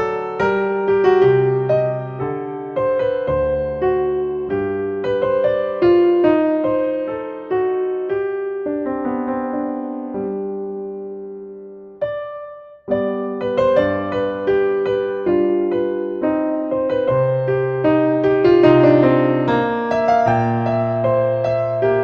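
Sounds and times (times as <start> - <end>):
solo piano music: 0.0 - 22.0.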